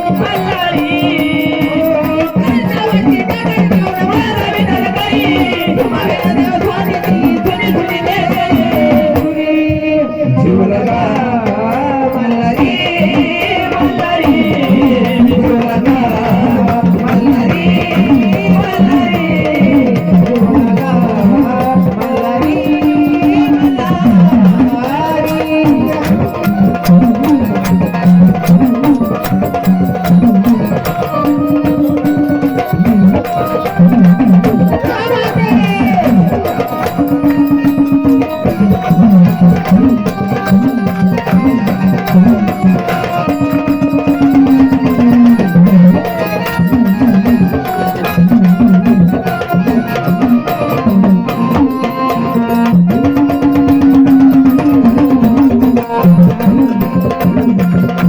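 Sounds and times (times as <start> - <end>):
wavering instrumental melody: 0.0 - 10.4, 11.5 - 58.0
fast hand drum rhythm: 0.0 - 58.0.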